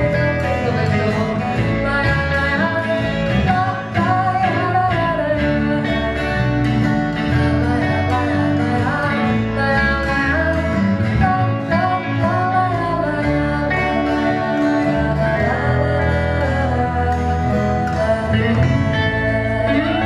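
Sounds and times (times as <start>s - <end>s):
acoustic guitar: 0.0s - 20.0s
bass: 0.0s - 20.0s.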